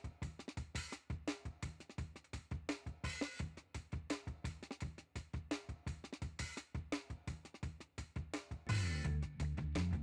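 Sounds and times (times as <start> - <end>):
background music with drums and bass: 0.0 - 10.0.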